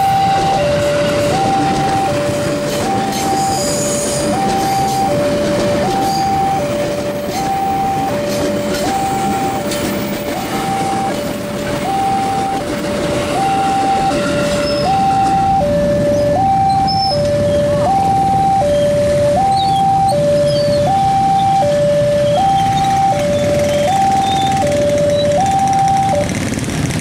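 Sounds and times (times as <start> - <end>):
level crossing two-tone alarm: 0.0 - 26.4
electric train passing: 0.0 - 27.0.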